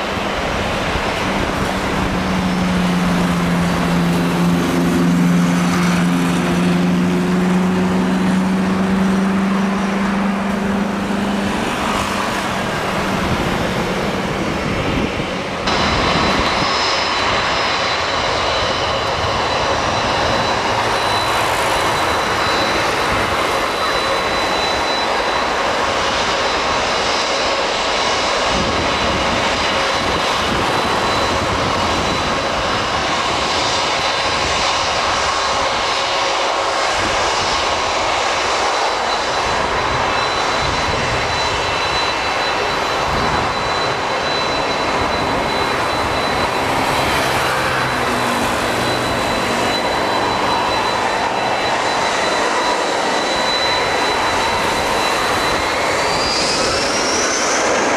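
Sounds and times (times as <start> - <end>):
jet engines taxiing whine: 0.0 - 57.9.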